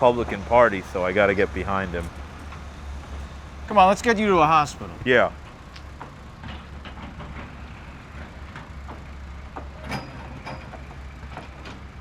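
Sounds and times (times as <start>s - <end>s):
low traffic rumble: 0.0s - 9.8s.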